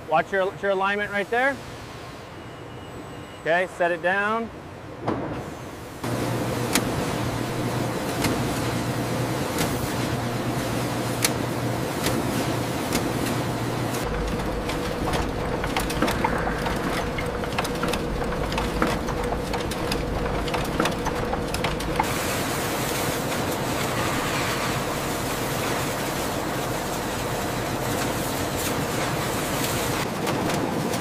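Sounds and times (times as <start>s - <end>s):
printing press running: 6.0s - 31.0s.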